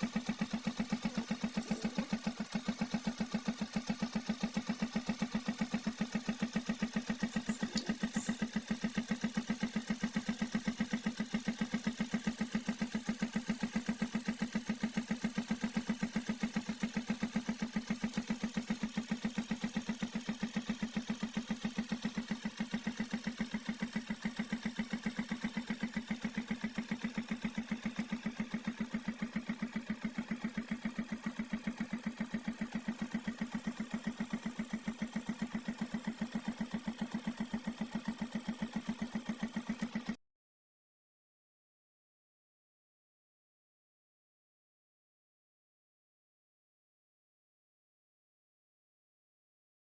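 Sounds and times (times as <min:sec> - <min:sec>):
vehicle engine pulsing steadily: 0:00.0 - 0:40.2.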